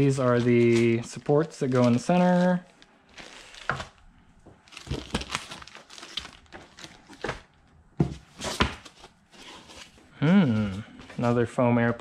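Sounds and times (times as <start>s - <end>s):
packing foam and cardboard handled: 0.0s - 11.4s.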